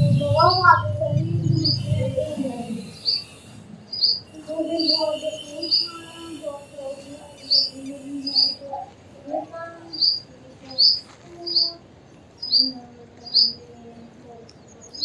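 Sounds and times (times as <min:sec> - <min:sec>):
bird calling high-pitched notes: 0:00.0 - 0:13.6.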